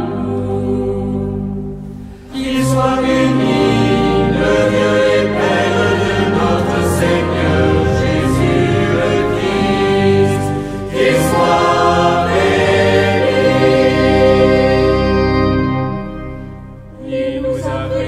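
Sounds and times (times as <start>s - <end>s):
choir singing sacred music: 0.0s - 18.0s.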